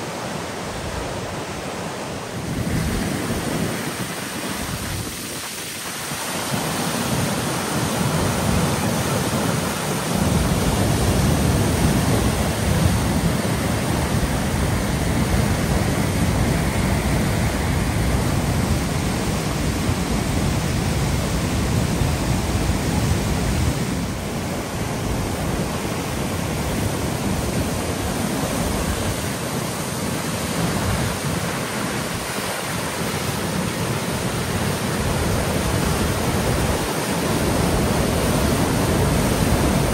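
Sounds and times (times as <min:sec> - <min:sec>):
river rushing over rapids: 0:00.0 - 0:39.9.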